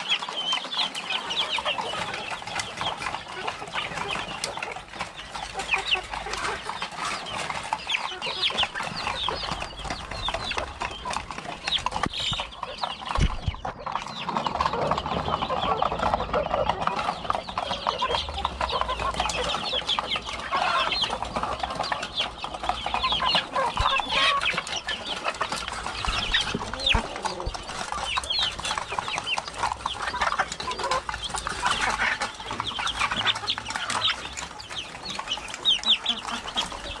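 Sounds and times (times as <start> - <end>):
chickens clucking and calling: 0.0 - 37.0.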